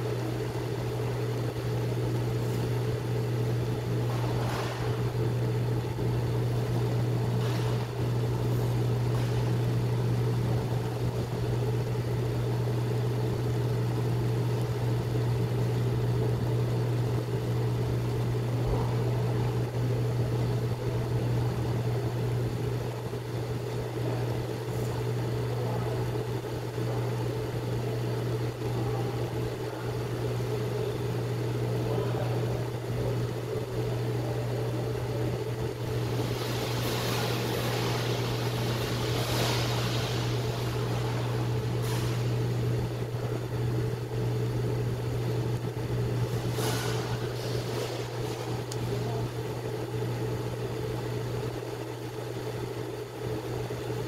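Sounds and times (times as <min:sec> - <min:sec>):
cooker humming: 0:00.0 - 0:54.0.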